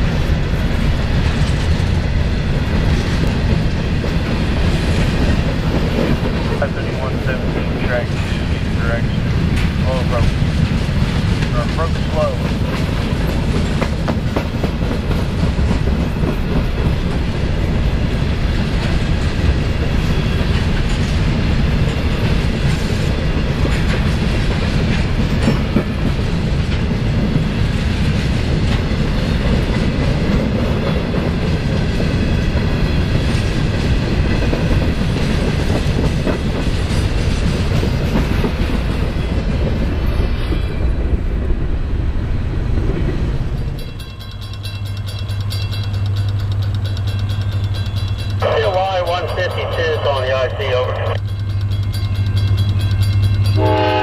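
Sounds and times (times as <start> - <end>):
freight train rumbling past: 0.0 - 54.0
wheels clicking over rail joints: 1.1 - 41.2, 42.8 - 48.4, 51.2 - 53.6.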